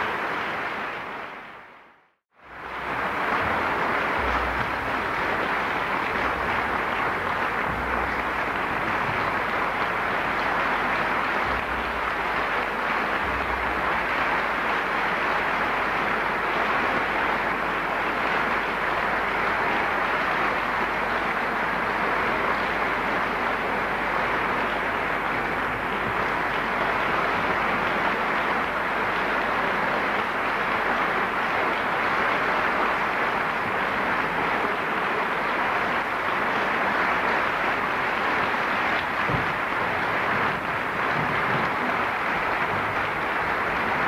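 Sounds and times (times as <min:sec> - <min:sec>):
audience applauding: 0:00.0 - 0:44.0.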